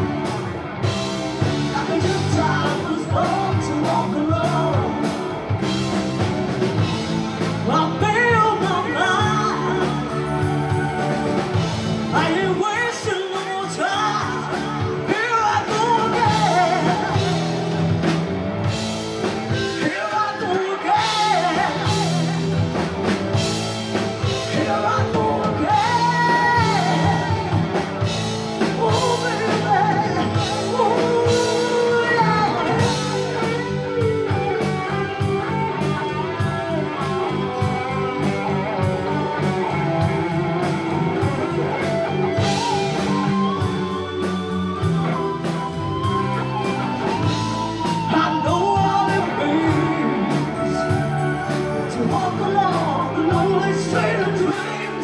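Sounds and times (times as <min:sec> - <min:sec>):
drum kit steady beat: 0:00.0 - 0:20.1, 0:20.9 - 0:55.0
person singing lead vocal: 0:00.0 - 0:55.0
rock band playing live: 0:00.0 - 0:55.0.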